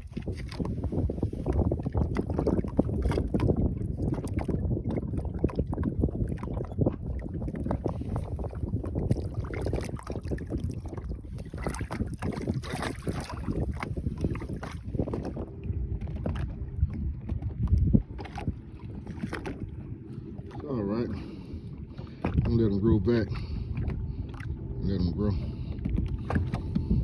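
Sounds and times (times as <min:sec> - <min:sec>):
wind buffeting the microphone: 0:00.0 - 0:27.0.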